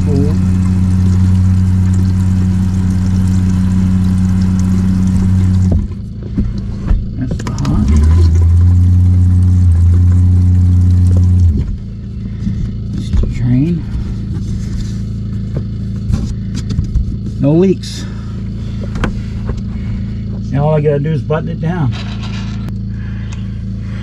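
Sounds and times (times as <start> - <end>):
water pump humming: 0.0 - 24.0.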